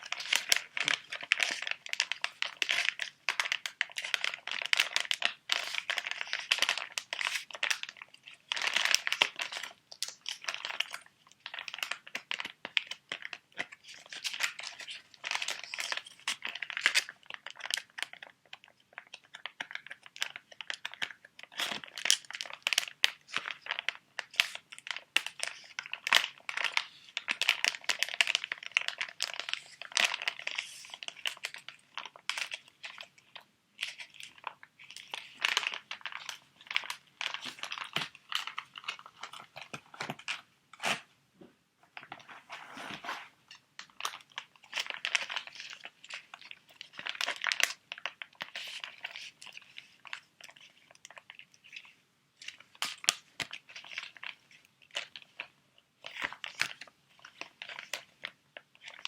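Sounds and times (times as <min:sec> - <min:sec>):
plastic packets crinkling: 0:00.0 - 0:41.0, 0:42.0 - 0:59.0.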